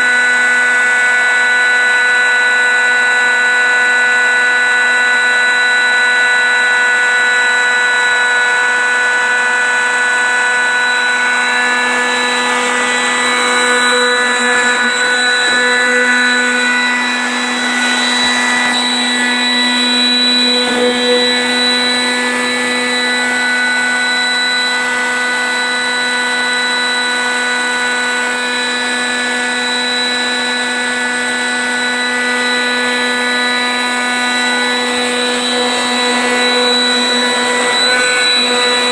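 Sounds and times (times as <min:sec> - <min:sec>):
electric air pump whining: 0:00.0 - 0:38.9.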